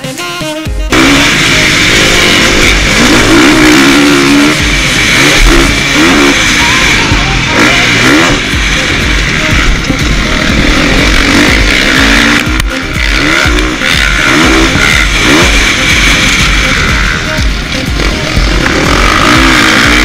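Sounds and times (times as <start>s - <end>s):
background music: 0.0s - 20.0s
motocross bike engine revving: 0.7s - 20.0s.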